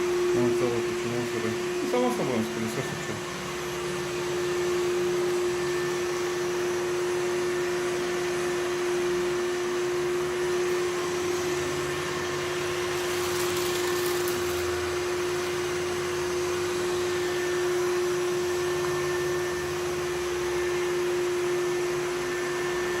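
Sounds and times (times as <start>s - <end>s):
robot vacuum humming: 0.0s - 23.0s.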